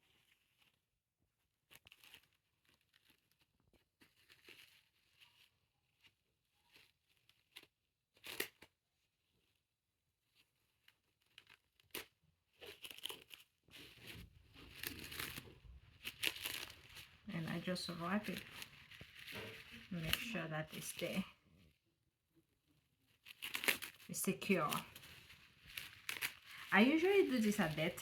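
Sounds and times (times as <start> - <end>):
cling film crinkling and tearing: 0.0 - 9.1, 10.4 - 21.4, 23.1 - 28.0.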